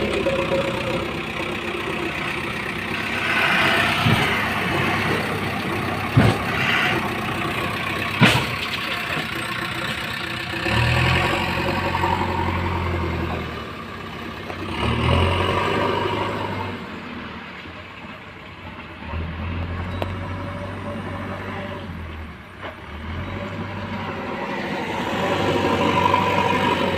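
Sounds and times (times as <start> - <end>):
diesel engine revving: 0.0 - 17.6, 18.6 - 26.9.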